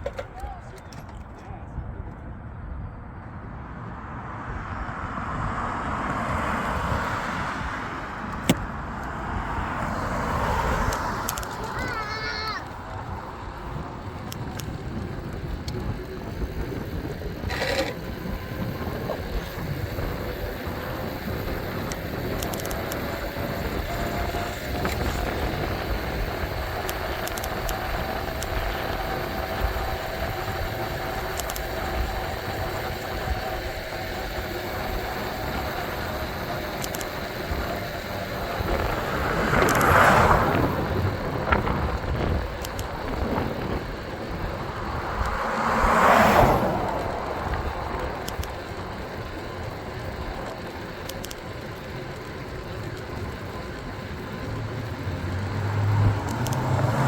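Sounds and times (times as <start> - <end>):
wind and road noise: 0.0 - 57.0
vehicle passing: 2.3 - 57.0.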